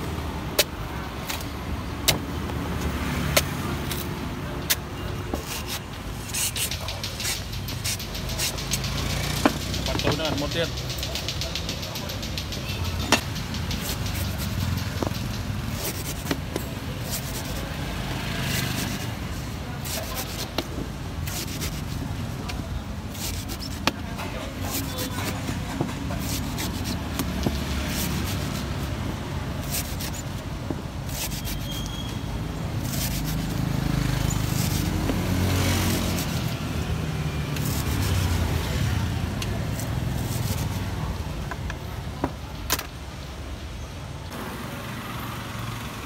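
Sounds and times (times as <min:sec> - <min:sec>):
street traffic rumble: 0:00.0 - 0:46.0
knife scraping coconut husk: 0:00.5 - 0:41.7.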